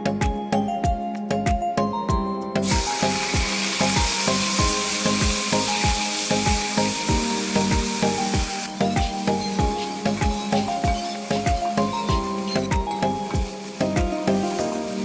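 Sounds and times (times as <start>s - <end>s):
background music with steady beat: 0.0s - 15.0s
meat sizzling in hot oil: 2.6s - 15.0s.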